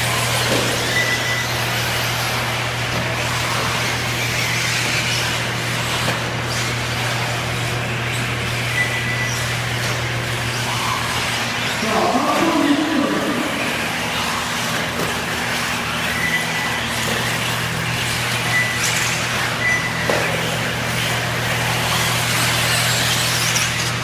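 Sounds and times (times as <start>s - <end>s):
constant low hum: 0.0s - 24.0s
rc cars running on dirt: 0.0s - 24.0s.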